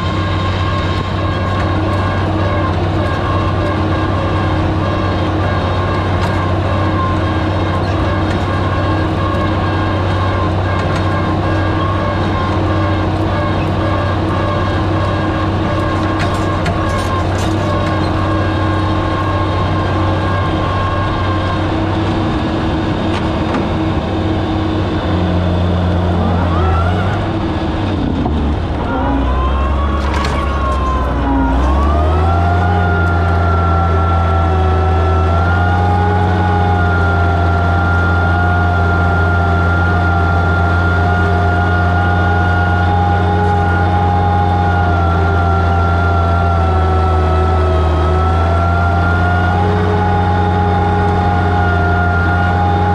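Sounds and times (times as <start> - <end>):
plow clank: 0.0 - 52.9
tractor engine under load: 0.0 - 52.9.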